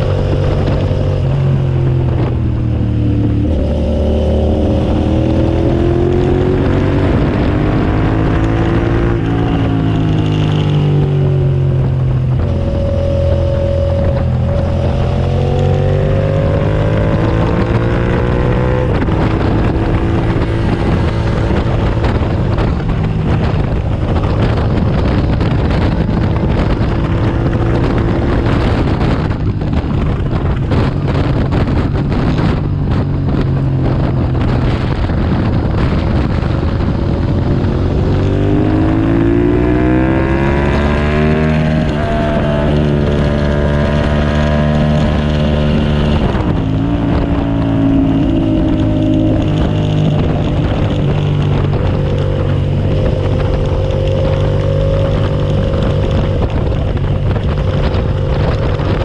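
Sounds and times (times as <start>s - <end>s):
motorcycle engine revving: 0.0s - 59.0s
wind buffeting microphone: 0.0s - 59.0s.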